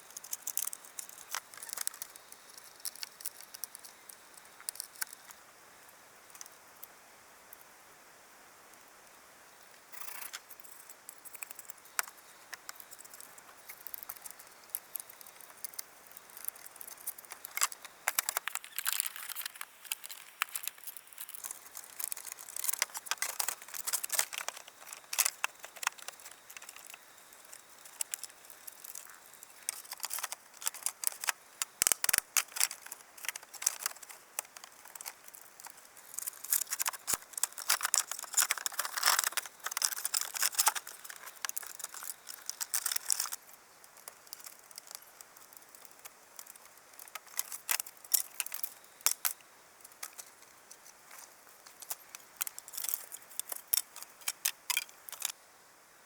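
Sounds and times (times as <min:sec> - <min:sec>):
crinkling and rustling of handling: 0:00.0 - 0:05.4, 0:10.0 - 0:55.4
faint high hiss: 0:00.0 - 0:56.0.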